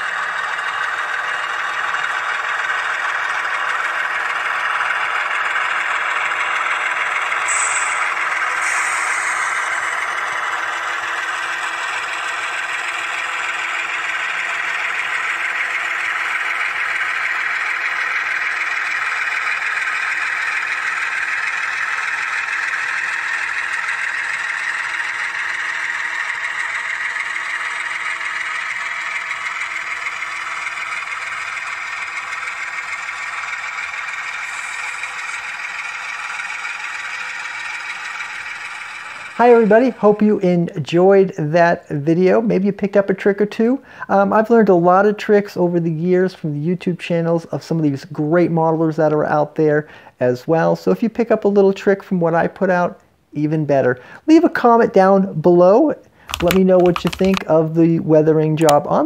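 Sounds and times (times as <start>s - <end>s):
model diesel engine sound: 0.0s - 59.0s
model train wheels rattling on rails: 0.0s - 59.0s.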